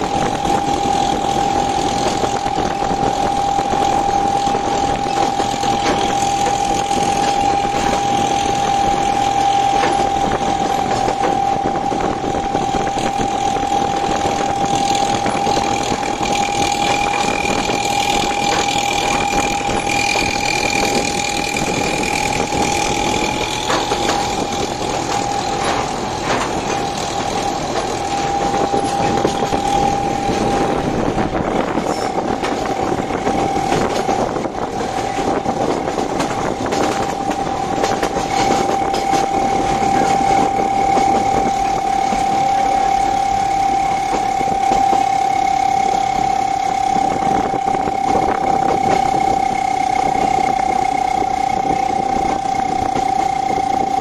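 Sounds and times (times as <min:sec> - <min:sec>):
high constant whine: 0:00.0 - 0:54.0
train mechanical din: 0:00.0 - 0:54.0.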